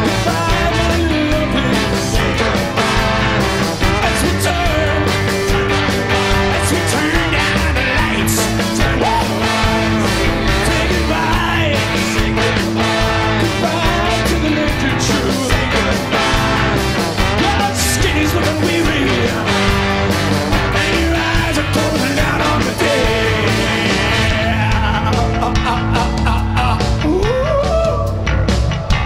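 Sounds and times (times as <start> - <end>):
trombone: 0.0 - 26.7
bass guitar: 0.0 - 29.0
drums with cymbals: 0.0 - 29.0
electric guitars: 0.0 - 29.0.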